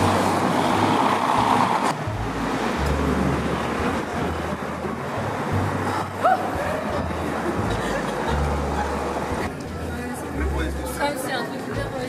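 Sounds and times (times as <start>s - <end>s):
car passing: 0.0s - 9.9s
traffic hum: 0.0s - 12.0s.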